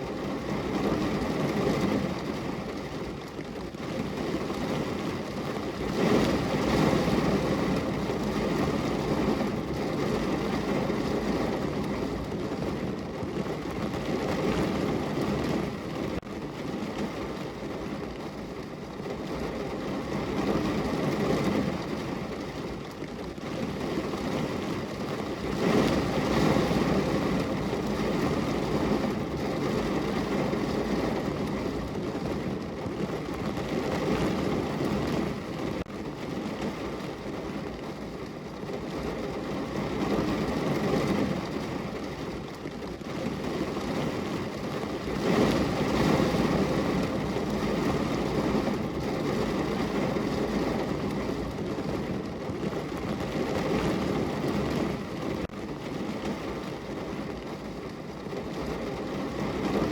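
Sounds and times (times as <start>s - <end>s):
heavy rain drumming on car roof: 0.0s - 59.9s.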